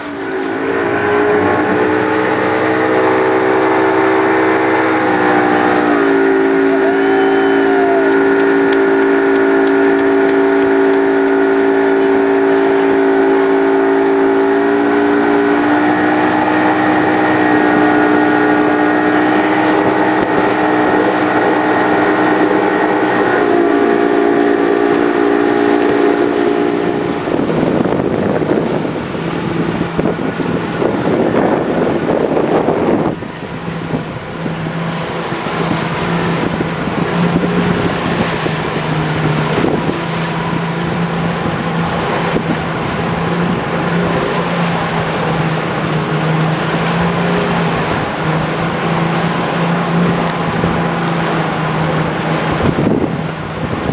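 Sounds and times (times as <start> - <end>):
motorboat engine running: 0.0 - 53.9
rushing water: 0.0 - 53.9
wind: 0.0 - 53.9.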